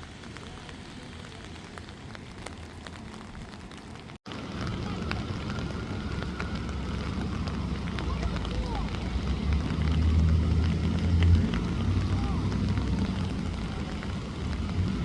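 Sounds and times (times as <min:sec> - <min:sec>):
low rumble: 0:00.0 - 0:15.0
rain falling: 0:00.0 - 0:15.0.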